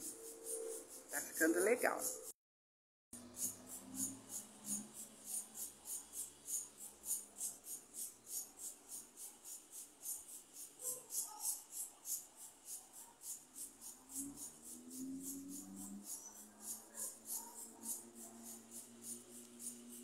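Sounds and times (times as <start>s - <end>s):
faint insect chirping: 0.0s - 2.3s, 3.2s - 20.0s.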